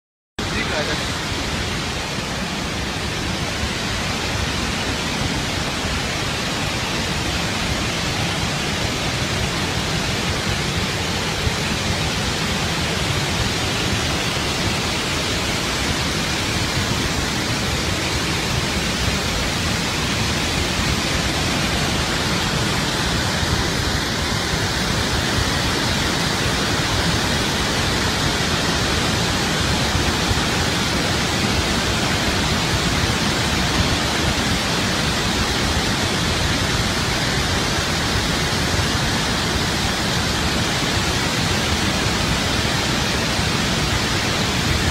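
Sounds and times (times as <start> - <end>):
roar of rushing water: 0.4 - 44.9.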